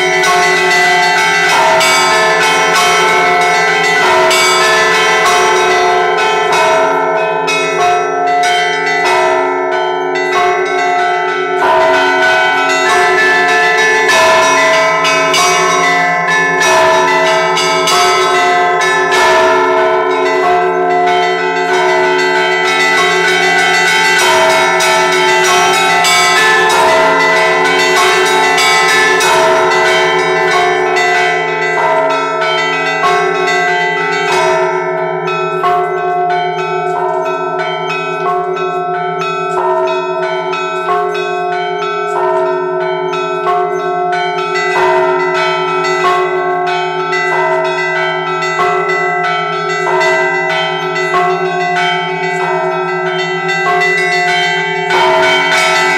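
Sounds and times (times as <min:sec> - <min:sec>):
church bells pealing: 0:00.0 - 0:55.9.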